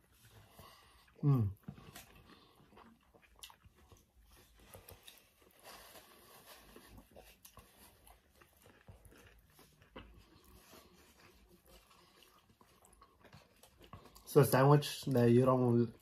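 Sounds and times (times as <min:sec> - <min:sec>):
chewing and lip-smacking: 0:00.0 - 0:16.0.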